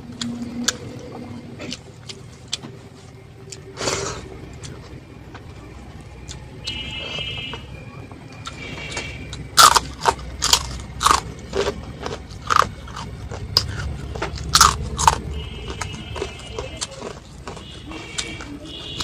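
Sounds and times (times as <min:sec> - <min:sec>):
crunching and chewing fried food: 0:00.0 - 0:07.7, 0:08.3 - 0:19.0
steady low rumble: 0:00.0 - 0:18.8.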